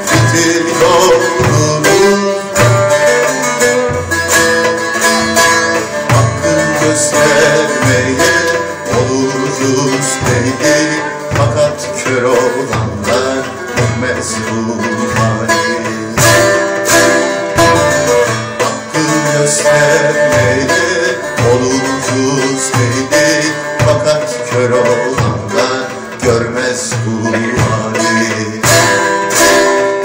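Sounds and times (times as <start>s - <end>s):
hand drum rhythm: 0.0s - 30.0s
plucked lute melody: 0.0s - 30.0s.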